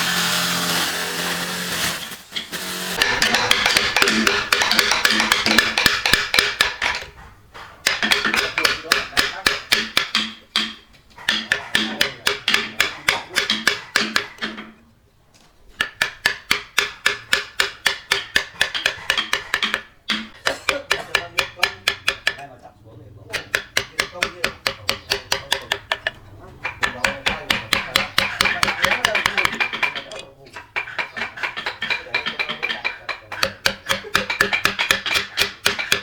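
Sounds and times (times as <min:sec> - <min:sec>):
tool striking wood rapidly: 0:00.0 - 0:07.1, 0:07.8 - 0:14.7, 0:15.8 - 0:22.5, 0:23.3 - 0:36.0.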